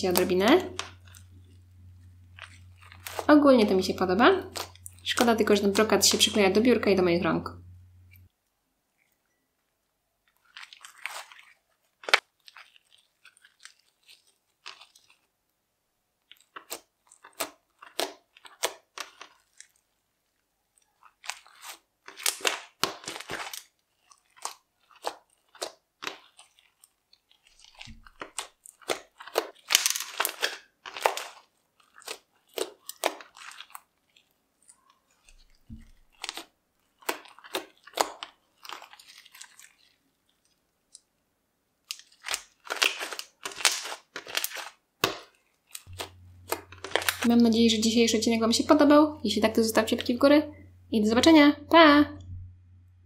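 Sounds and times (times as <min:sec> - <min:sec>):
slime squished by hand: 0:00.0 - 0:06.5, 0:10.3 - 0:15.4, 0:16.2 - 0:20.0, 0:20.7 - 0:41.1, 0:41.8 - 0:49.0.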